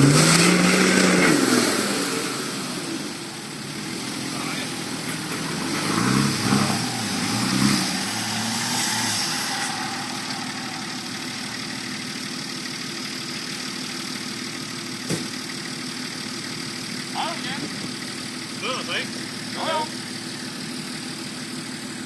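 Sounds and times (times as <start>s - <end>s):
vehicle engine revving and idling: 0.0s - 22.0s.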